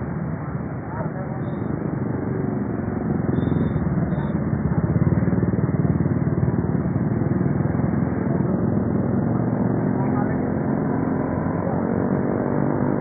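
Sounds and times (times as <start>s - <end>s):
motorcycle engine running: 0.2s - 13.0s.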